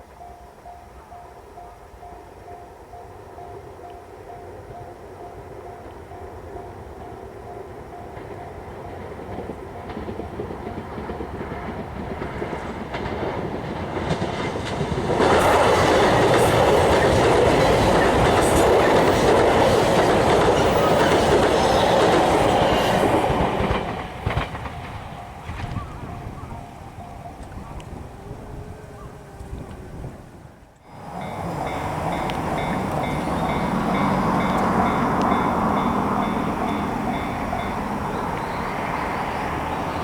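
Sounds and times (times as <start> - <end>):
crossing bell clanging: 0.0 - 29.1, 30.8 - 40.0
train rumble with wheel clatter: 0.0 - 40.0.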